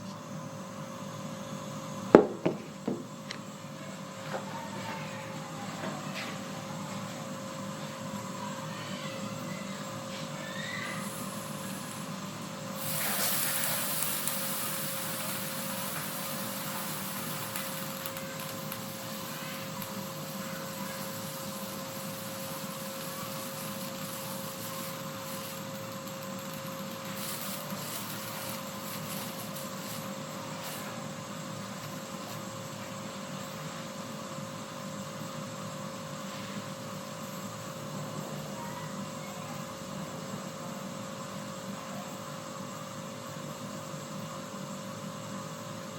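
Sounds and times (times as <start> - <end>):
water heating hiss: 0.0 - 45.9.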